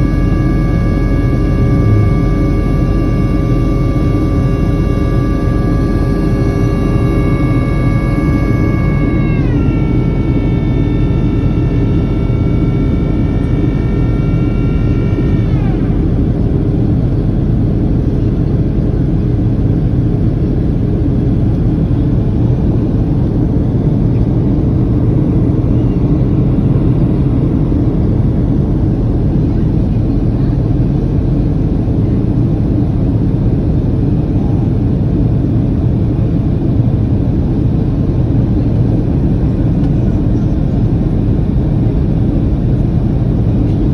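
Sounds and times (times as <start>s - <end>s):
airplane cabin rumble: 0.0s - 43.9s
flap drive whine: 0.0s - 43.9s.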